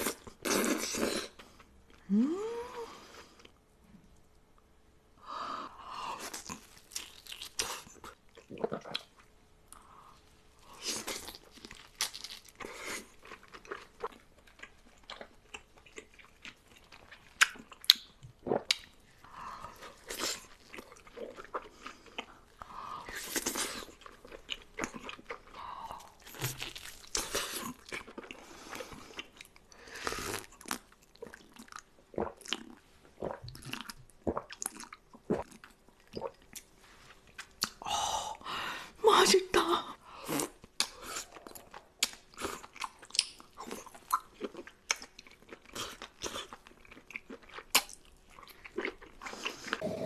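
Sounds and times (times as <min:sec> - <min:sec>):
person chewing food: 0:06.1 - 0:37.8, 0:40.3 - 0:50.0.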